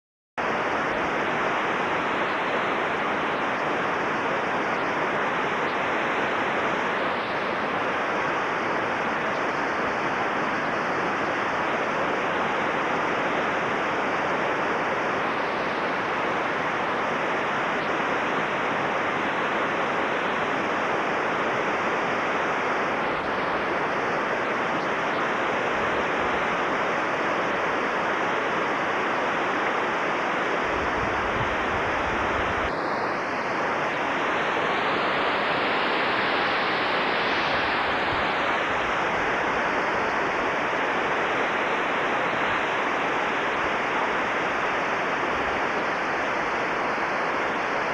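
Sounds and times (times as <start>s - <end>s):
rushing whitewater rapids: 0.4s - 47.9s.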